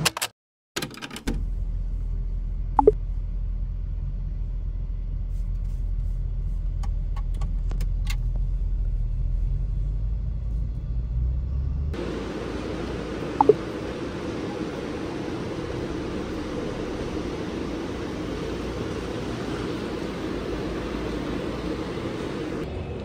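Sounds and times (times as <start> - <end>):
car cabin road rumble: 1.3 - 23.0.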